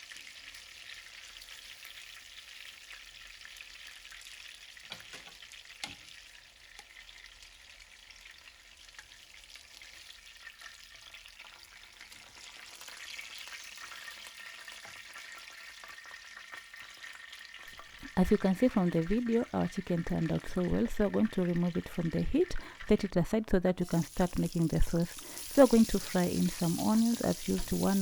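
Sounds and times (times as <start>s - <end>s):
chicken sizzling as it fries: 0.0s - 28.0s.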